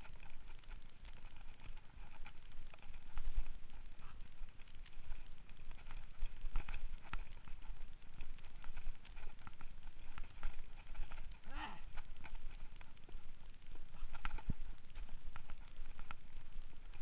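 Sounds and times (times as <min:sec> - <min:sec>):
mountain bike rattling on dirt: 0:00.0 - 0:17.0
wind rumble on camera: 0:00.0 - 0:17.0.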